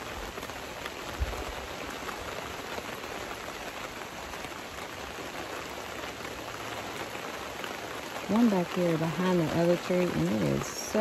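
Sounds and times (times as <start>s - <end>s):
rain on a tent: 0.0s - 11.0s.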